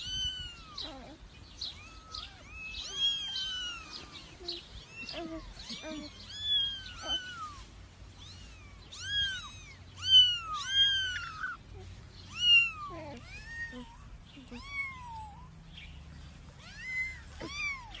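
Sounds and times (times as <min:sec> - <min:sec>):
kittens mewing: 0:00.0 - 0:15.6, 0:16.5 - 0:18.0.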